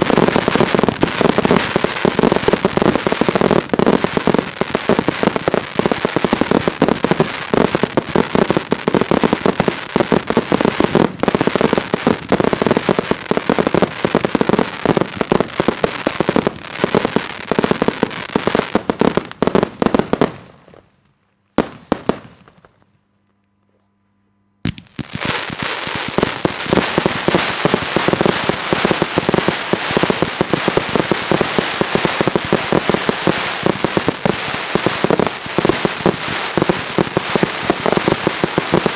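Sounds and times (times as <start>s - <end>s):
fireworks bangs and crackling: 0.0s - 22.9s, 24.6s - 38.9s.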